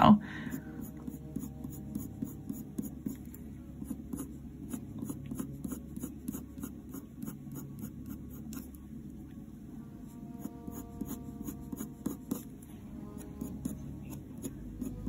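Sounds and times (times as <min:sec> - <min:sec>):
pencil scratching on paper: 0:00.8 - 0:08.7, 0:10.3 - 0:15.0.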